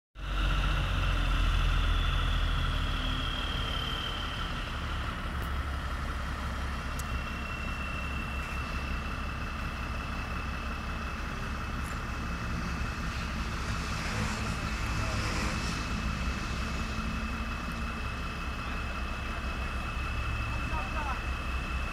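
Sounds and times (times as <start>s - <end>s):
crane engine running under load: 0.2s - 21.9s.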